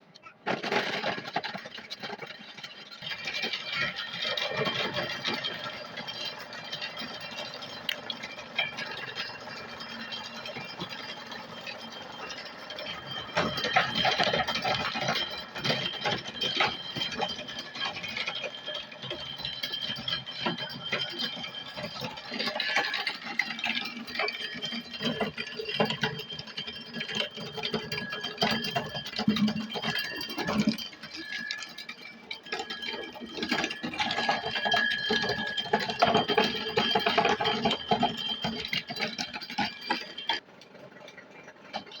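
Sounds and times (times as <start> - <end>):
clatter of corn kernels and cobs: 0.0 - 42.0.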